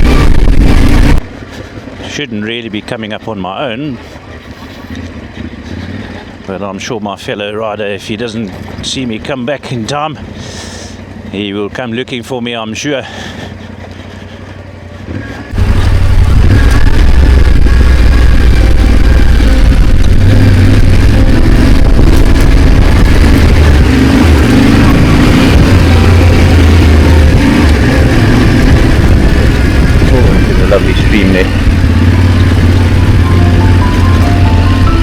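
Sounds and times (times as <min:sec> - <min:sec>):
motorcycle engine rumbling: 0:00.0 - 0:35.0.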